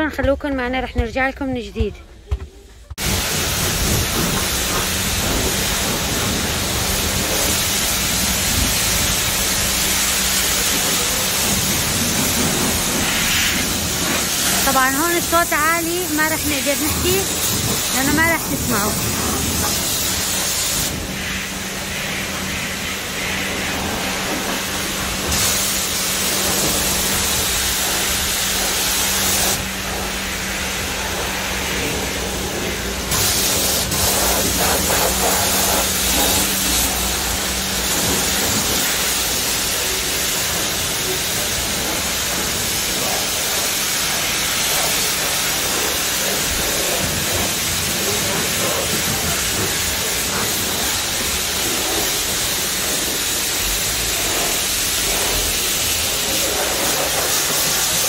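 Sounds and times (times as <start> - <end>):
pressure washer spraying hiss: 2.9 - 58.0.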